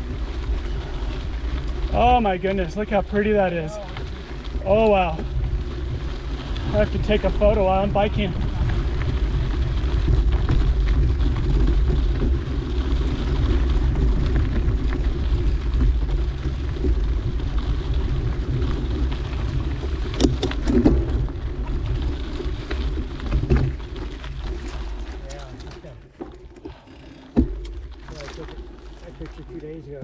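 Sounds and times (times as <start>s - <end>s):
bike tyres rumbling on dirt: 0.0s - 30.0s.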